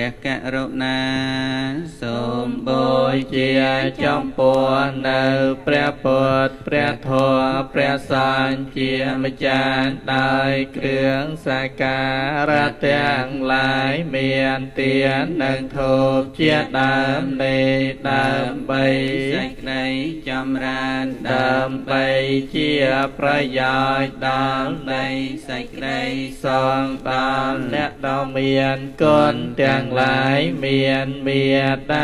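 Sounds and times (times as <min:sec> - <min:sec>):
monk chanting: 0:00.0 - 0:32.0.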